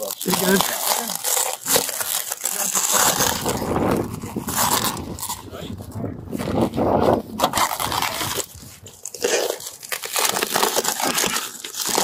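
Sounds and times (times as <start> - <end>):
shattered glass crunching and crackling: 0.0 - 5.5, 7.4 - 12.0.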